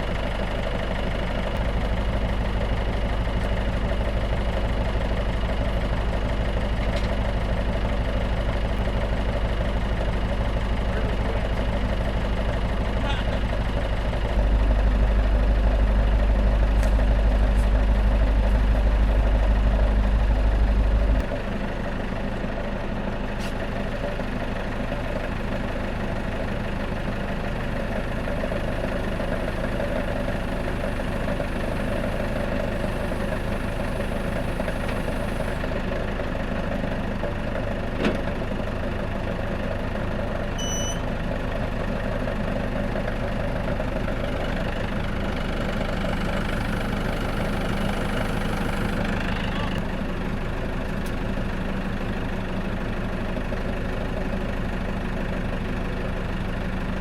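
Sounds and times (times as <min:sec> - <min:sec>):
tractor engine idling: 0:00.0 - 0:57.0.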